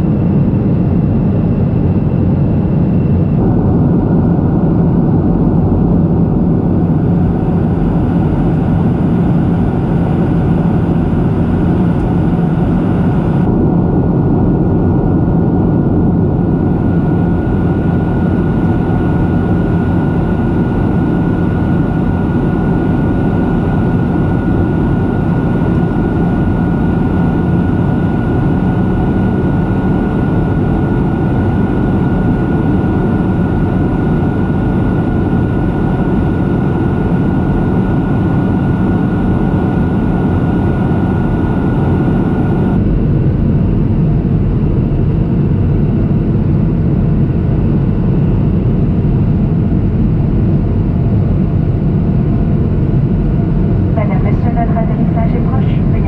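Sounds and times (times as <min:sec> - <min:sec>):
airplane cabin engine rush: 0:00.0 - 0:56.0
high whine: 0:00.0 - 0:56.0
low hum: 0:00.0 - 0:56.0.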